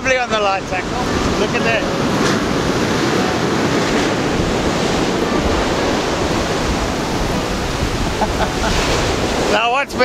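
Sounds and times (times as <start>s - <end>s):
ocean surf breaking on beach: 0.0s - 10.0s
wind buffeting microphone: 0.0s - 10.0s.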